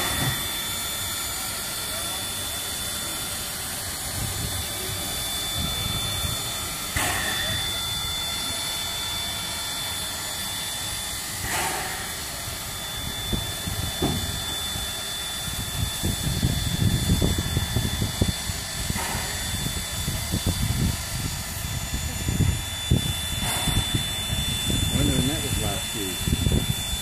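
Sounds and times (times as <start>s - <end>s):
steam hissing from locomotive: 0.0s - 27.0s.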